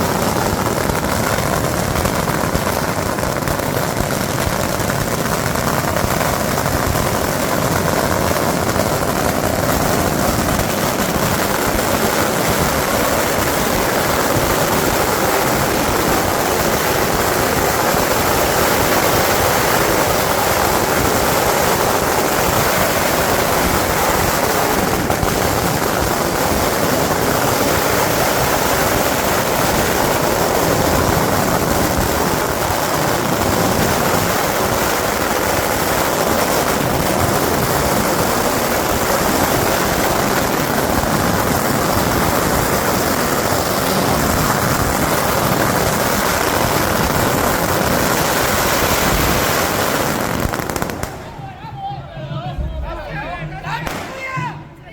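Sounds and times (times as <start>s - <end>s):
firecrackers crackling: 0.0s - 54.9s.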